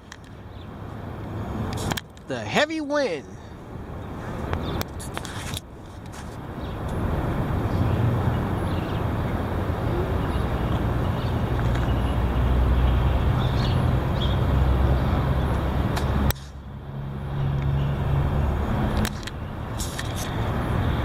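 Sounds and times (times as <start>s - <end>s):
heavy wind on microphone: 3.2s - 21.0s.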